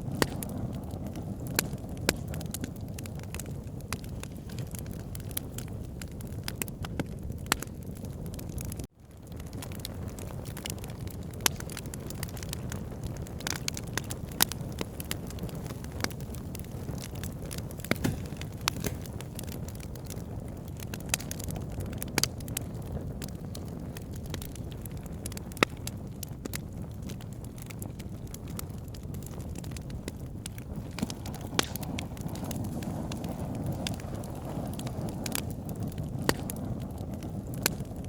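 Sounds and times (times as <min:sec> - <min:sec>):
campfire low rumble: 0:00.0 - 0:38.0
crackling wood snaps and pops: 0:00.0 - 0:38.0.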